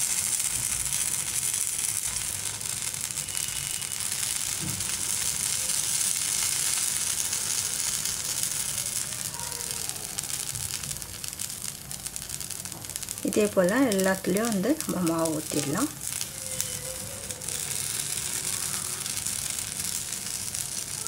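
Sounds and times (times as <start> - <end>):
batter sizzling in hot pan: 0.0 - 21.0.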